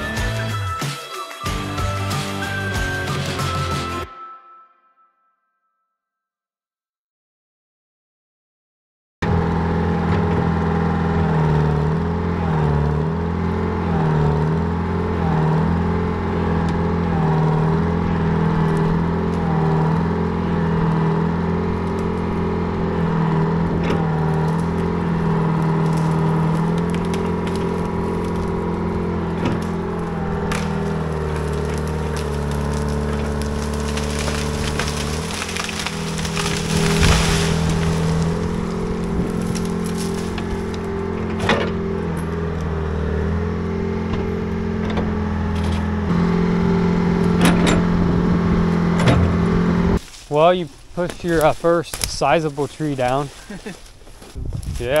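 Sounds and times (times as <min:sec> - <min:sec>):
diesel excavator engine under load: 0:09.2 - 0:55.0
wood cracking and roots tearing: 0:09.8 - 0:55.0.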